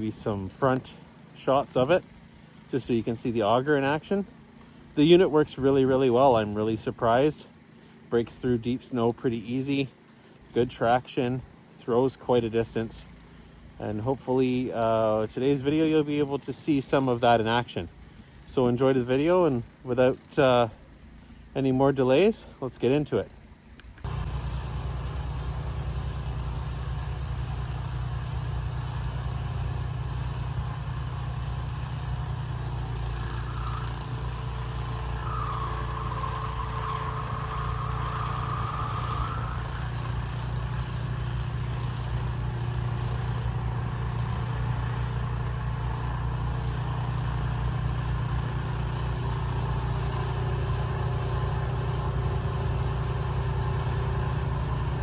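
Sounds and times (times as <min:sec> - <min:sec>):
snowblower engine droning: 0:00.0 - 0:21.5, 0:23.4 - 0:55.0.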